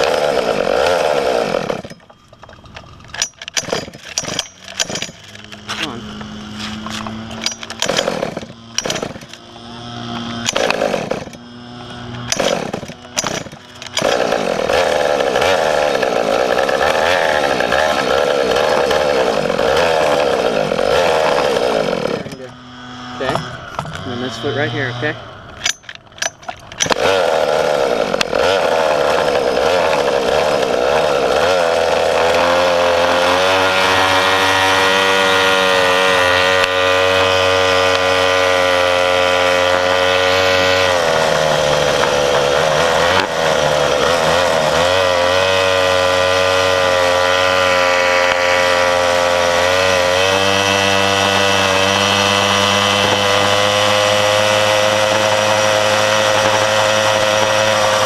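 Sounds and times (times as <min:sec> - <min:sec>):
mini bike engine under throttle: 0:00.0 - 0:58.0.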